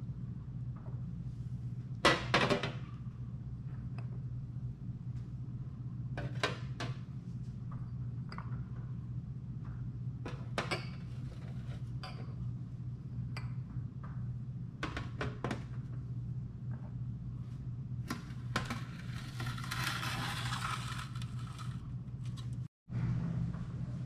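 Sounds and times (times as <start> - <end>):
steady low hum: 2.8 - 24.0.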